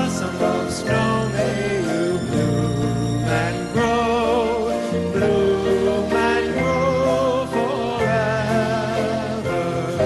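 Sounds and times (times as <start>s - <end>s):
band accompaniment: 0.0s - 10.0s
voices singing slow song: 0.0s - 10.0s.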